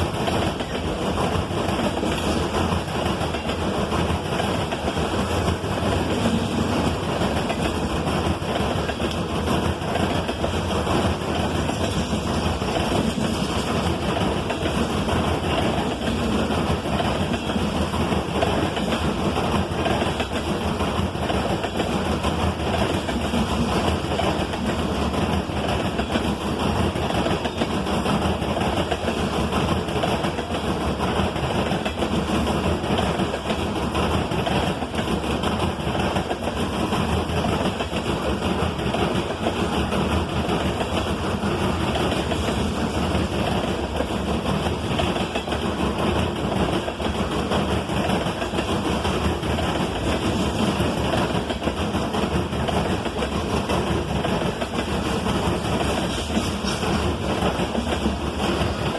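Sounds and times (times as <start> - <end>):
freight train rumbling past: 0.0 - 58.9.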